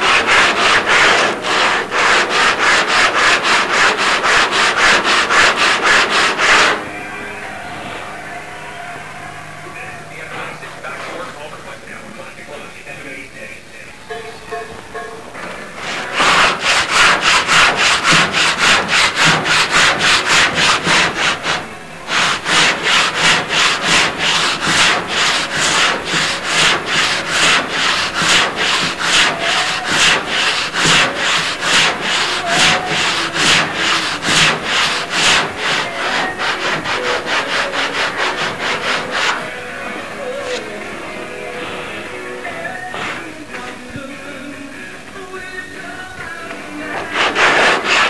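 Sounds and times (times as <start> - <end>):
rhythmic rubbing strokes: 0.0 - 44.6, 46.2 - 48.0.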